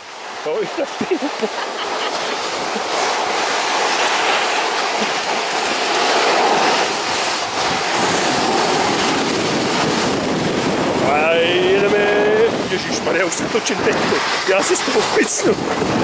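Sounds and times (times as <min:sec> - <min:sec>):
snow tube scraping over snow: 0:00.0 - 0:16.0
wind on microphone: 0:00.0 - 0:16.0.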